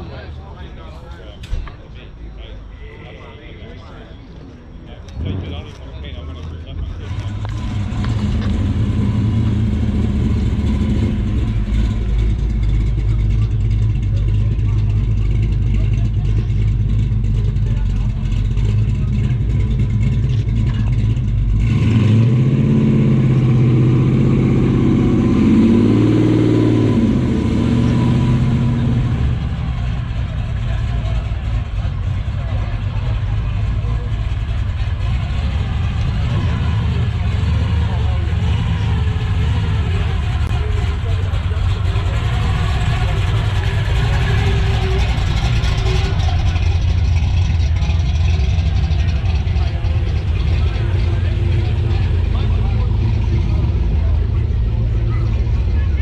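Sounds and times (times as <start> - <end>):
car engine running loudly: 0.0 - 56.0
faint voices: 0.0 - 56.0.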